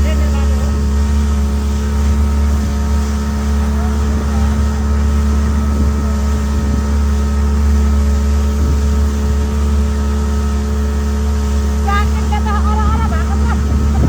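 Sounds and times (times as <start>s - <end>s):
engine hum with low drone: 0.0s - 14.0s.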